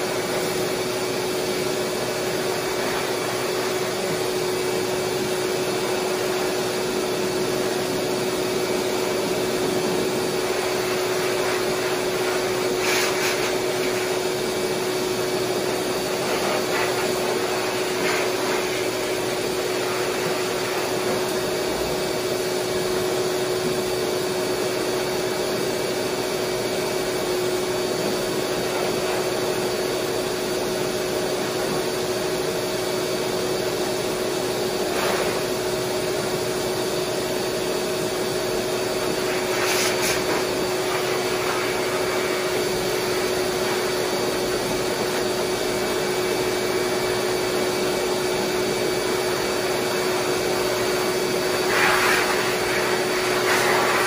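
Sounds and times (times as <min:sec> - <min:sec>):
dog grooming dryer blowing: 0:00.0 - 0:54.0.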